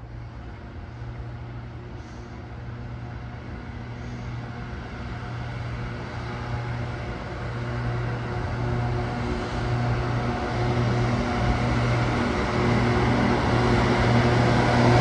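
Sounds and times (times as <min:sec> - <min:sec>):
train locomotive humming: 0:00.0 - 0:15.0.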